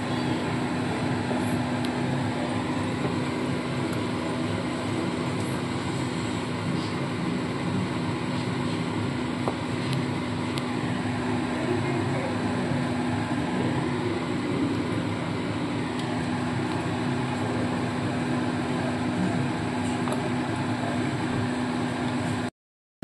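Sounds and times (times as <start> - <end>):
machine hum with fan noise: 0.0 - 22.5.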